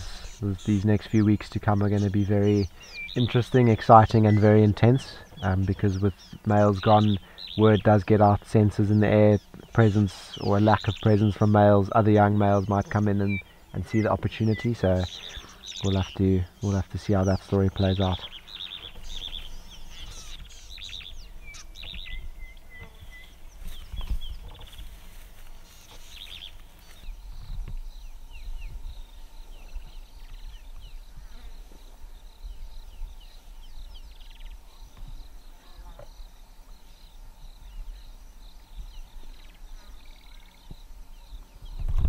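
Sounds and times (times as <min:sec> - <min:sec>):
birds chirping and calling: 0:00.0 - 0:42.0.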